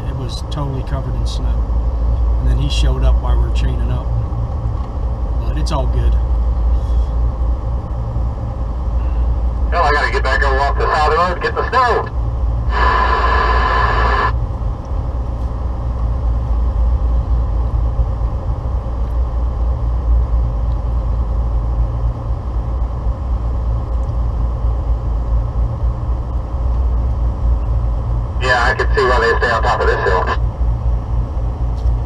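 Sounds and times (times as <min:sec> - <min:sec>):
truck engine rumble: 0:00.0 - 0:32.0.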